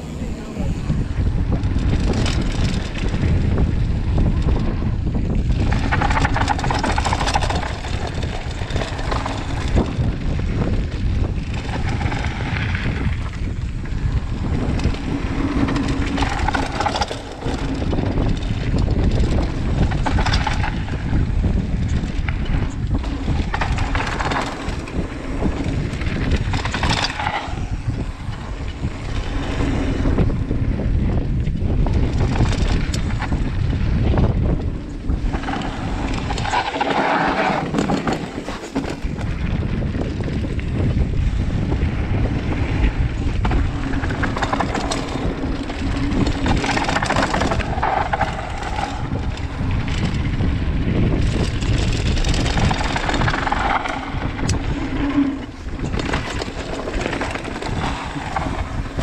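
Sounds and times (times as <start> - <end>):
bike tyres rolling over dirt: 0.0 - 59.0
wind buffeting microphone: 0.0 - 59.0.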